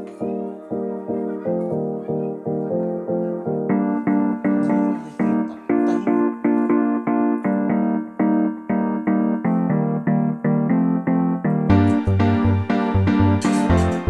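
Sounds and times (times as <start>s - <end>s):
piano melody repeated notes: 0.0s - 14.0s.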